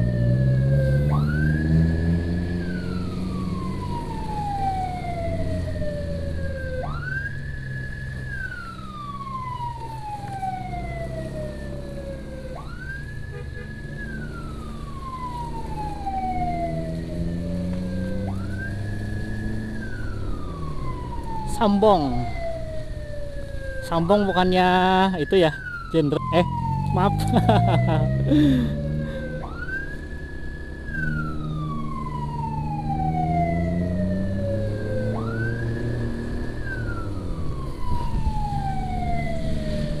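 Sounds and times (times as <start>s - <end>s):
motorcycle engine: 0.0s - 23.8s, 25.6s - 40.0s
emergency siren wailing: 0.0s - 40.0s.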